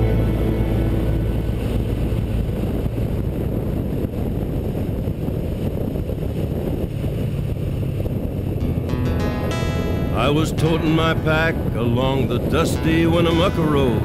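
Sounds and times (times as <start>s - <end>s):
motorcycle engine and road rumble: 0.0s - 14.0s
wind rushing over microphone: 0.0s - 14.0s.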